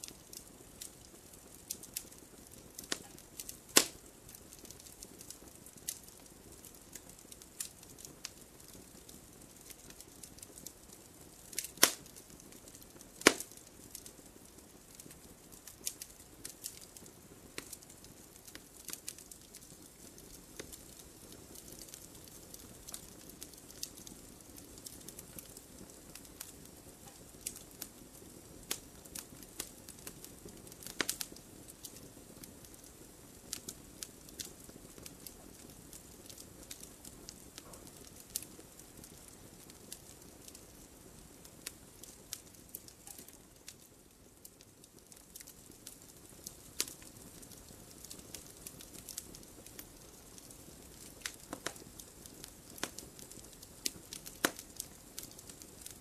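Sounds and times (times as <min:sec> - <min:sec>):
wood campfire crackling: 0:00.0 - 0:56.0.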